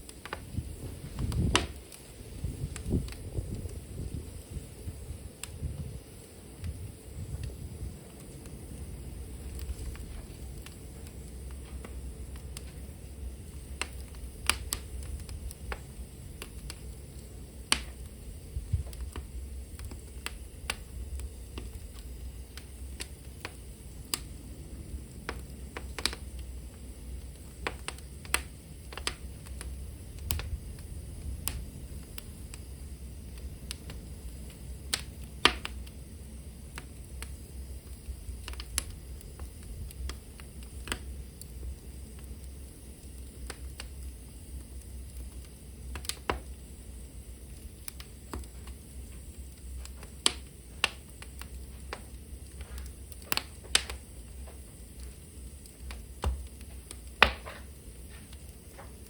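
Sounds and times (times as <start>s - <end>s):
fire crackling and popping: 0.0s - 59.0s
low rumble of flame: 0.0s - 59.0s.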